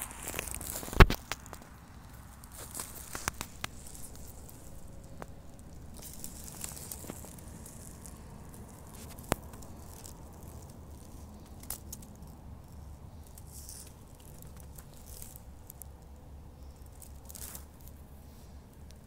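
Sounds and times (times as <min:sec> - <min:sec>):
dry pine needles rustling: 0:00.0 - 0:19.0.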